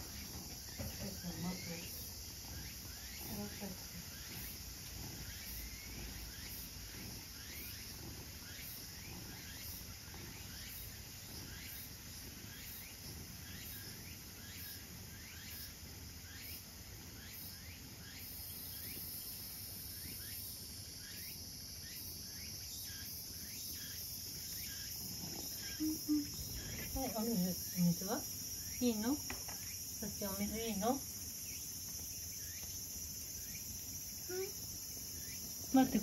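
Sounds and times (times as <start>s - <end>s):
insect chirping: 0.0s - 36.0s.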